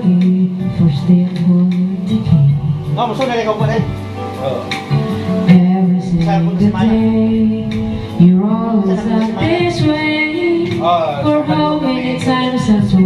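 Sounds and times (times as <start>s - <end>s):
woman singing into a microphone: 0.0s - 2.9s, 5.4s - 13.0s
backing music: 0.0s - 13.0s.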